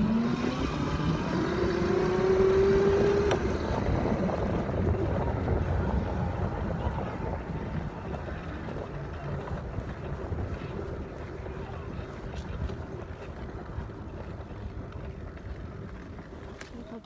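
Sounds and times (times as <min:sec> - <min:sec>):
dirt bike engine running: 0:00.0 - 0:17.0
wind buffeting microphone: 0:00.0 - 0:17.0.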